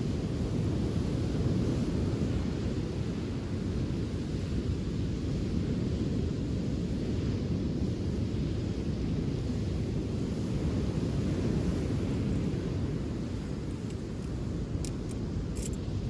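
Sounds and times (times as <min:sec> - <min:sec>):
surf on a beach: 0:00.0 - 0:13.8.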